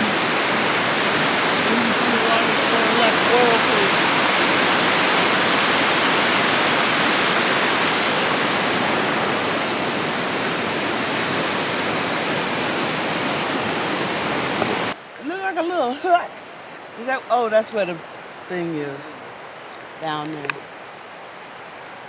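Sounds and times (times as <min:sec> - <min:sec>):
river rapids rushing: 0:00.0 - 0:19.4.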